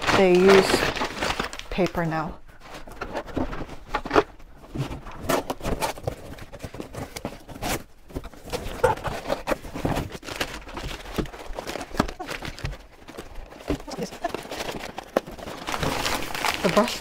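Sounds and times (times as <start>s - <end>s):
packing paper rustling: 0.0s - 17.0s.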